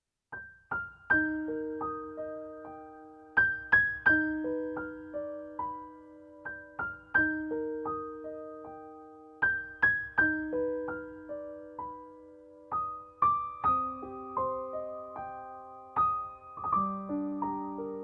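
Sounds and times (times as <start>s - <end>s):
gentle keyboard melody: 0.3s - 18.0s.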